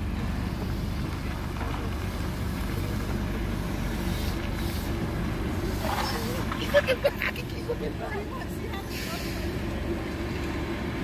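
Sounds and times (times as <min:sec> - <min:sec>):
trolley bus rumbling past: 0:00.0 - 0:11.0.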